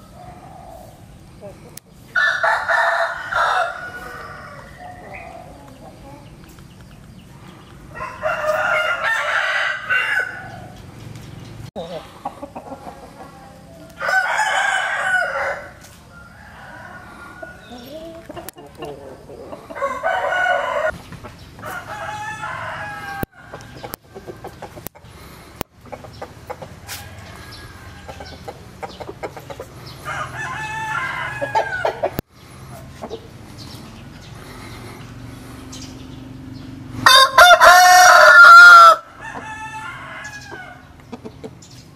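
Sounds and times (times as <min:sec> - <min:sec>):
roosters crowing: 0:00.0 - 0:06.3, 0:07.2 - 0:11.1, 0:11.8 - 0:41.3.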